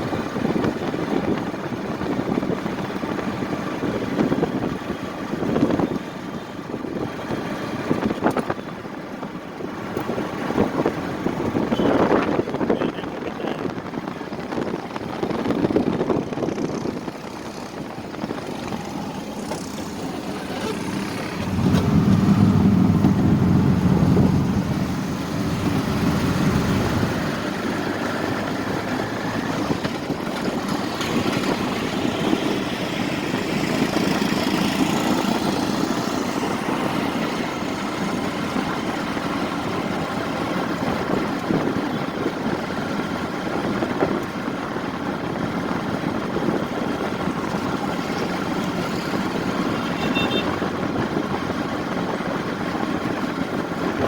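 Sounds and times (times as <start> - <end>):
loud engine close by: 0.0 - 54.0
road traffic engines: 0.0 - 54.0.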